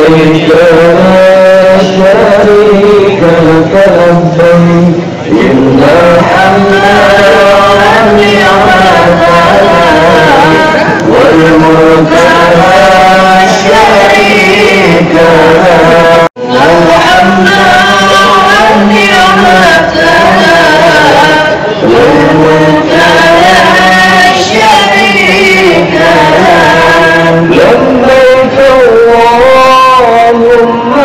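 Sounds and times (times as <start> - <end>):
men chanting: 0.0 - 31.0.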